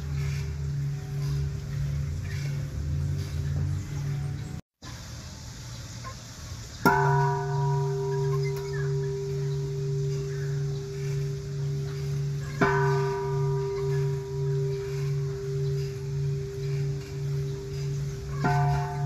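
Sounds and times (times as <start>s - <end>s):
temple bell struck ringing: 0.0s - 3.7s, 6.8s - 19.0s.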